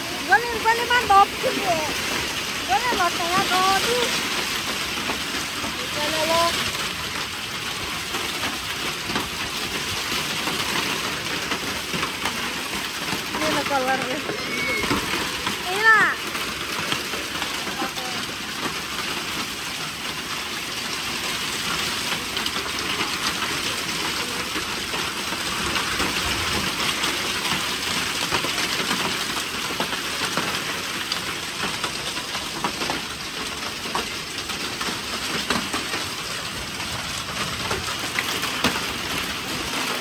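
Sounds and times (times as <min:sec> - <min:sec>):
hailstones tapping: 0:00.0 - 0:40.0
heavy rain pouring: 0:00.0 - 0:40.0.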